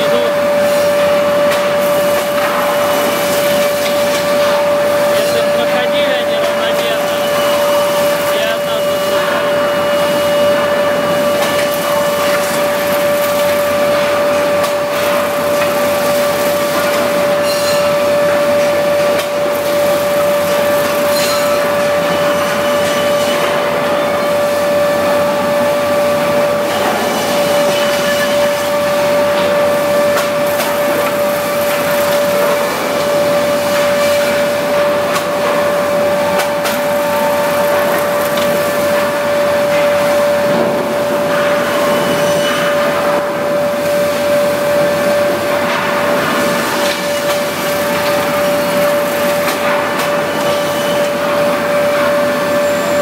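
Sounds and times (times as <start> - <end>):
planing machine running: 0.0 - 53.0.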